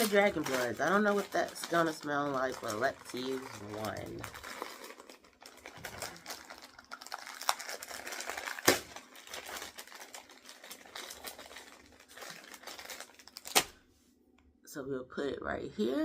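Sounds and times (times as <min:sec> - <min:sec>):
packaging crinkling: 0:00.0 - 0:13.8.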